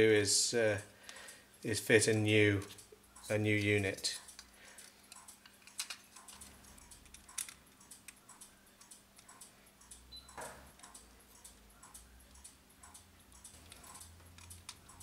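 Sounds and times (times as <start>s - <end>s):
clock parts clicking and tapping: 0.4s - 15.0s.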